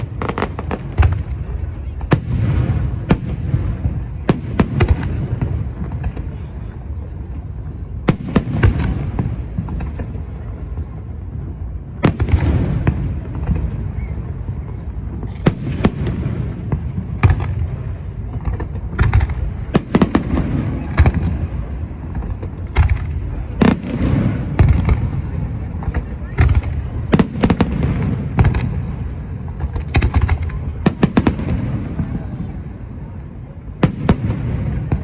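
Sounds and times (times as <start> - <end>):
fireworks bangs and crackles: 0.0 - 35.0
low rumble of echoing reports: 0.0 - 35.0.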